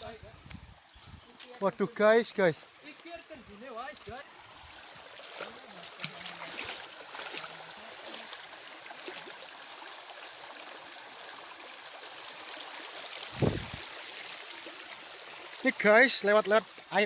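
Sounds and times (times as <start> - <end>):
stream water rushing over stones: 1.3 - 17.0.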